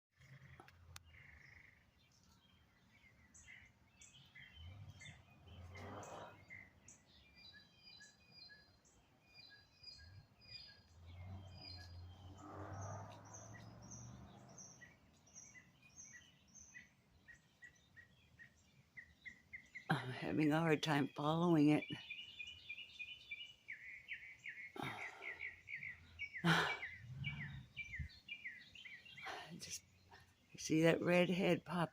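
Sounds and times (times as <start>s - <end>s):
birds chirping faintly: 0.2s - 31.9s.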